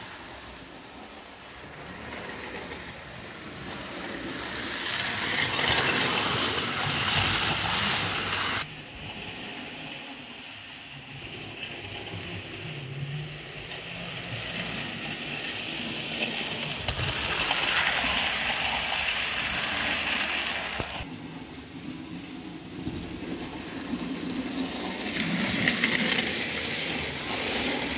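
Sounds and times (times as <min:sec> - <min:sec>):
model train wheels clicking on track: 0:01.4 - 0:21.1, 0:22.7 - 0:27.9.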